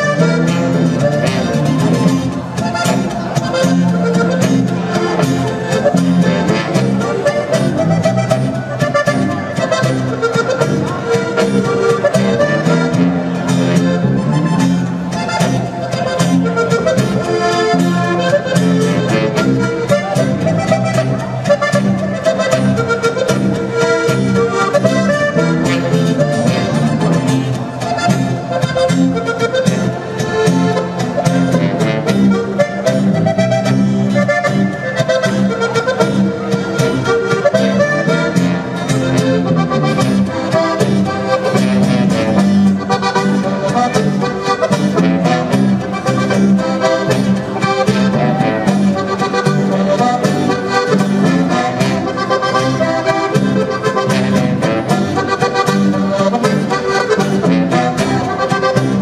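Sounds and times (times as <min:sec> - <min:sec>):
accordion: 0:00.0 - 0:59.0
guitar: 0:00.0 - 0:59.0
tuba bass: 0:00.0 - 0:59.0.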